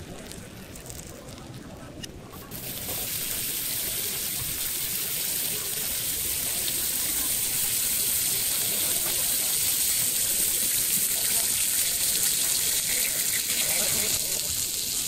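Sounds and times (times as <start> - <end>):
sauce sizzling on hot plate: 2.4 - 15.0.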